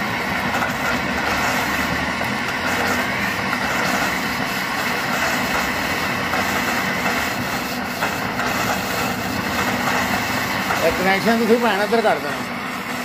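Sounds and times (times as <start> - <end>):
water and gas hissing from a pipe: 0.0 - 13.0.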